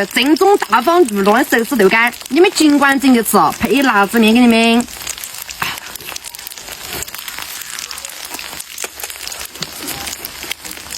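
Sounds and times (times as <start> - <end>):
tofu sizzling in hot oil: 0.0 - 10.9.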